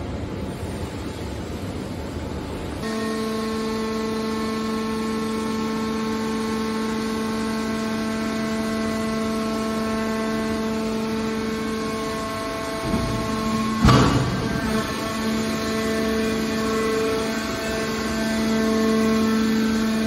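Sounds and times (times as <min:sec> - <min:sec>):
hydraulic power unit hum: 0:00.0 - 0:20.0
rough noisy machine sound: 0:00.0 - 0:20.0.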